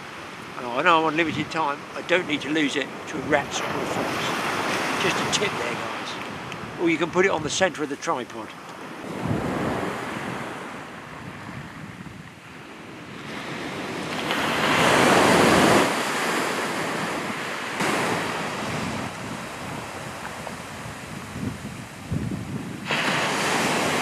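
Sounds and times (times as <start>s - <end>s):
surf breaking on shore: 0.0s - 24.0s
wind buffeting microphone: 0.9s - 7.7s, 8.8s - 24.0s.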